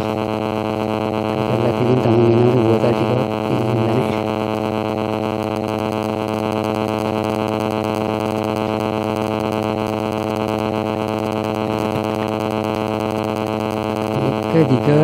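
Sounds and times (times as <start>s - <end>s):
sustained synth chord: 0.0s - 15.0s.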